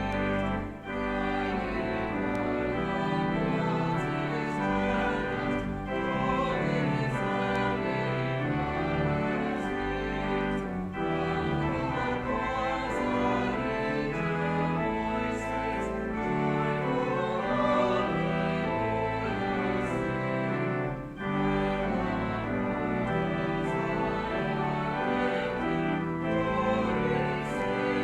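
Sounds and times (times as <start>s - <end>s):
sustained organ chords: 0.0s - 28.0s
voices singing a hymn: 0.0s - 28.0s.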